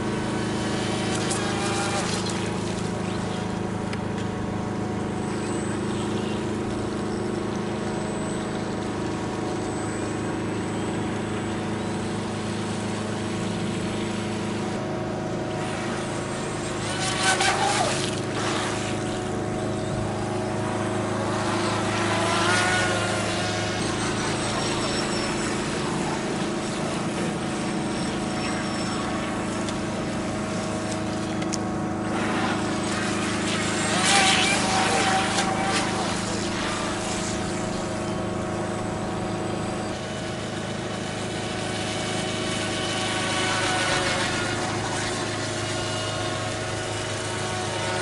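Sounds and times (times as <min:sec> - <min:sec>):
model boat motor humming: 0:00.0 - 0:48.0.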